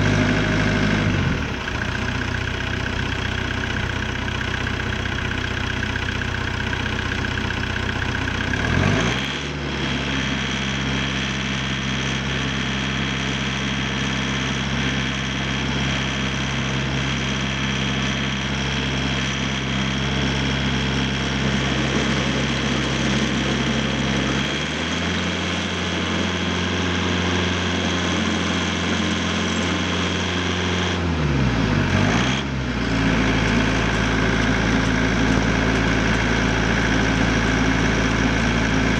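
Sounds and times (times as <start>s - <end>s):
diesel engine running: 0.0s - 11.6s, 12.4s - 38.9s.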